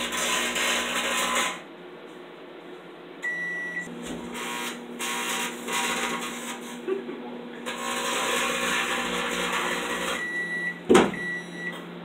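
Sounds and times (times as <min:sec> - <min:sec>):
microwave oven hum: 0:00.0 - 0:12.0.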